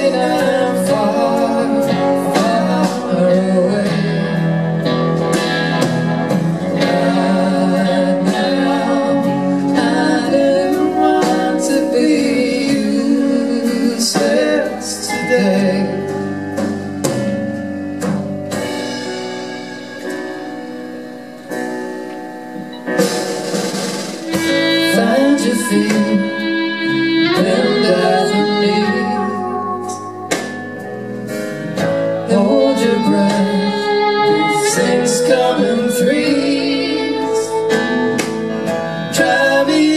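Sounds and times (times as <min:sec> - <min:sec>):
live pop-rock band with singing: 0:00.0 - 0:39.9.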